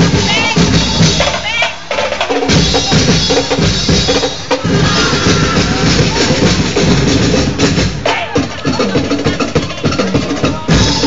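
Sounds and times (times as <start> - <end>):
drums playing a driving beat: 0.0 - 11.0.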